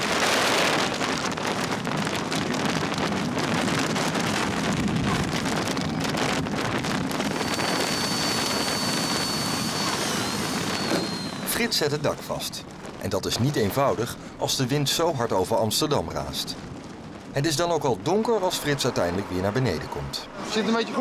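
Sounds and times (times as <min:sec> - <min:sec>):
storm wind on microphone: 0:00.0 - 0:21.0.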